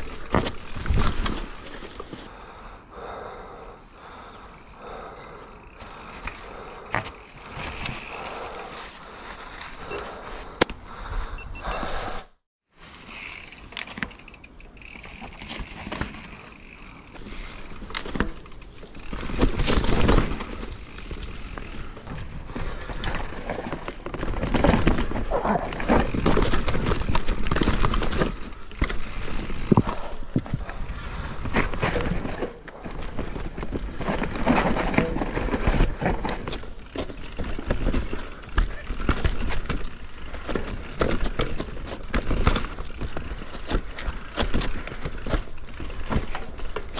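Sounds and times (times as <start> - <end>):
bike chain and frame clattering: 0.0 - 3.4, 4.0 - 8.7, 12.9 - 22.1, 22.8 - 46.9.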